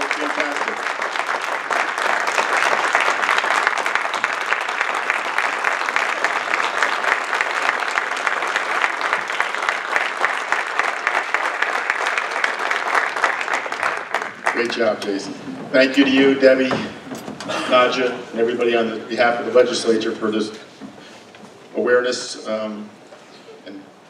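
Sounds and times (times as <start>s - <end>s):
crowd applauding: 0.0s - 21.2s.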